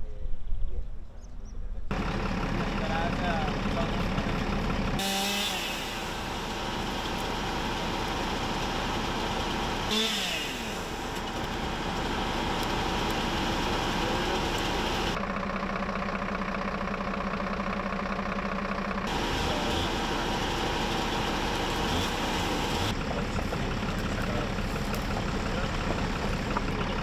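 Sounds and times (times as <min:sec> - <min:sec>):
engine running: 0:01.9 - 0:27.0.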